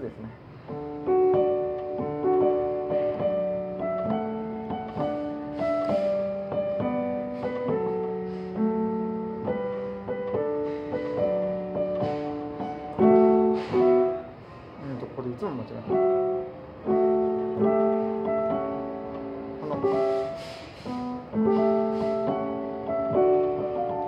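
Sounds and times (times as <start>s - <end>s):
piano chords over bass line: 0.0s - 24.0s.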